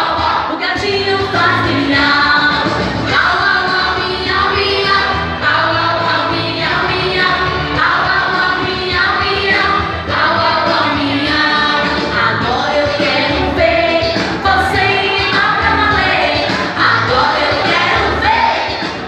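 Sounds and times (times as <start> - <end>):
instrumental backing music: 0.0 - 19.0
voices singing: 0.0 - 19.0.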